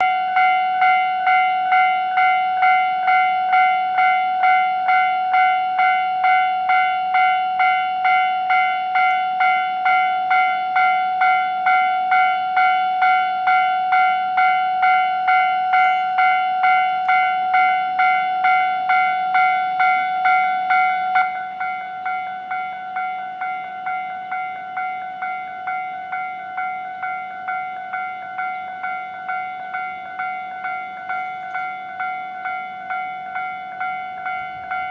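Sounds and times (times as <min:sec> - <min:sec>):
level crossing bell clanging: 0:00.0 - 0:34.9.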